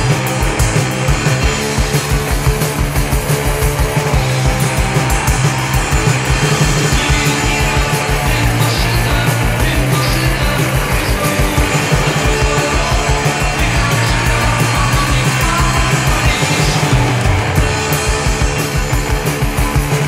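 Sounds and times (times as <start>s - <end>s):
fast drum beat: 0.0s - 20.0s
punk rock band playing: 0.0s - 20.0s.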